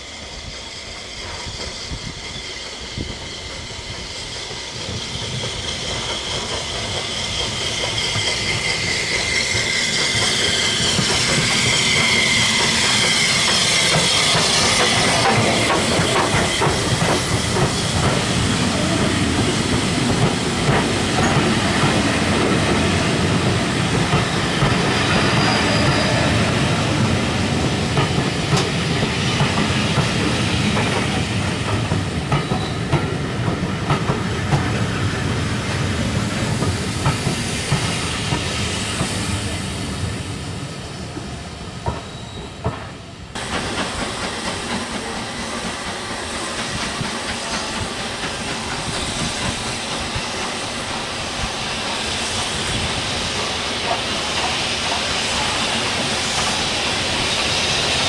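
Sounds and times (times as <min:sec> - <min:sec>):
steam locomotive hissing: 0:00.0 - 0:58.0
train wheels clicking over rail joints: 0:00.4 - 0:40.2, 0:41.1 - 0:58.0.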